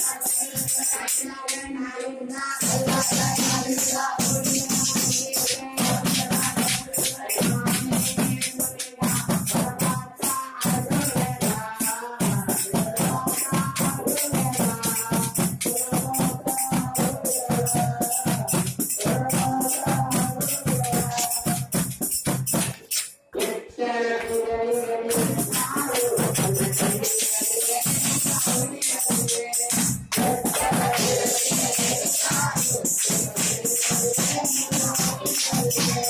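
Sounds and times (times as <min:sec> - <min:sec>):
jingling hand percussion: 0:00.0 - 0:23.6, 0:24.4 - 0:36.0
group singing devotional song: 0:00.0 - 0:36.0.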